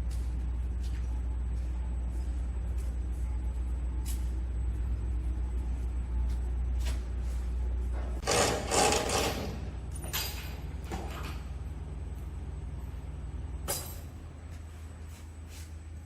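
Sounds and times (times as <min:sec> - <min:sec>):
machine drive hum: 0:00.0 - 0:16.0.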